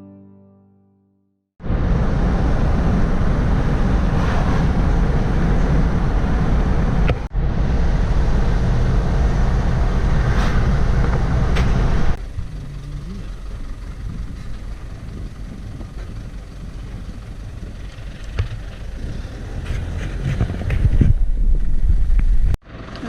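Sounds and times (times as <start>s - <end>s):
vehicle low rumble with hiss: 1.6s - 23.0s.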